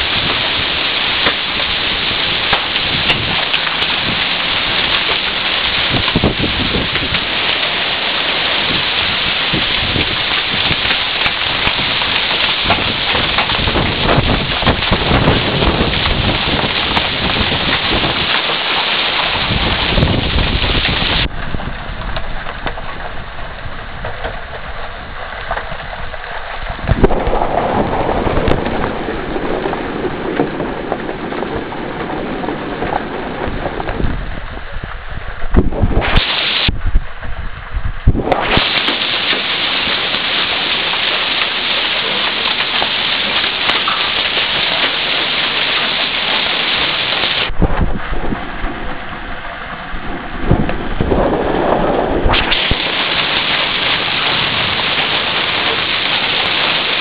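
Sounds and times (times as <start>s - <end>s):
hail and heavy rain on concrete: 0.0s - 37.5s, 38.1s - 57.0s.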